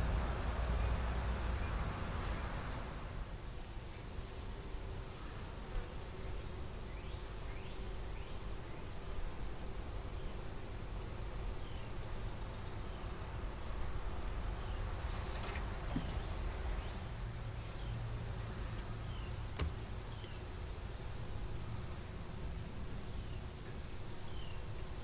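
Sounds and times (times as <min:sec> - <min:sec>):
honeybees humming: 0:00.0 - 0:25.0.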